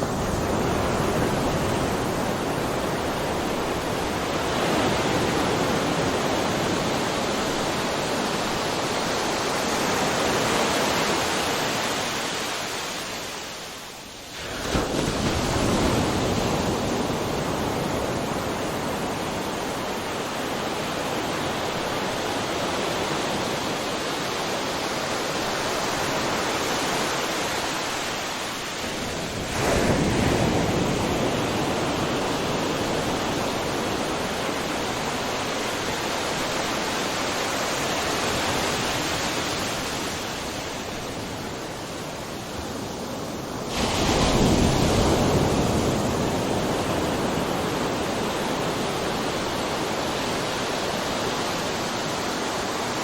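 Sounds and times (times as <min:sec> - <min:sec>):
ocean waves breaking: 0:00.0 - 0:53.0.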